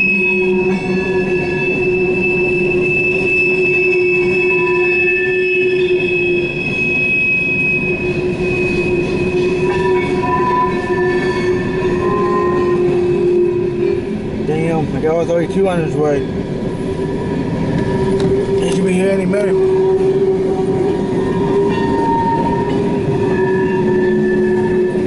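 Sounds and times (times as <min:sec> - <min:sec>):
steel wheels squealing: 0:00.0 - 0:25.0
train cars rumbling: 0:00.0 - 0:25.0.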